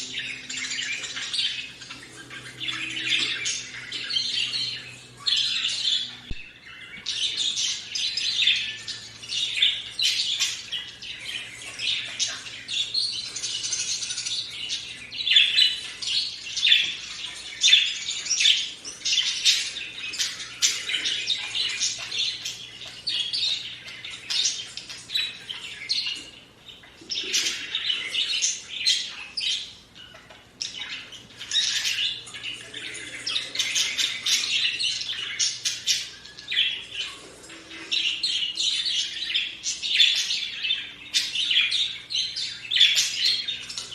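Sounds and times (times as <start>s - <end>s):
budgerigars chirping and warbling: 0.0s - 43.9s.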